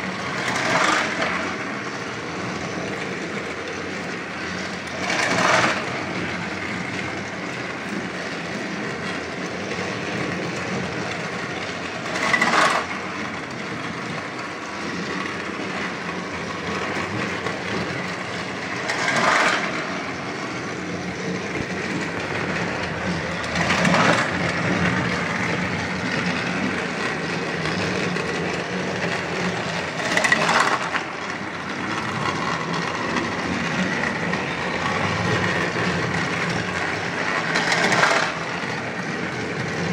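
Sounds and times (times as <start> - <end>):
toy train motor whirring and rattling: 0.0 - 39.9.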